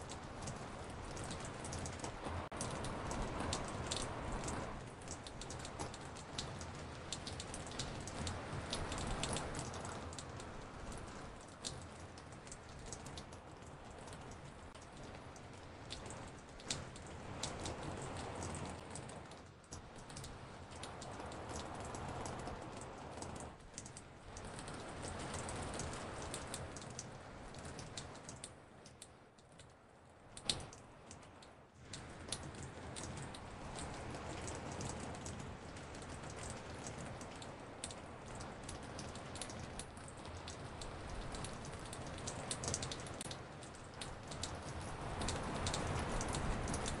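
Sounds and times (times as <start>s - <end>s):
raindrops dripping on porch: 0.0s - 47.0s
soft rain hiss: 0.0s - 47.0s.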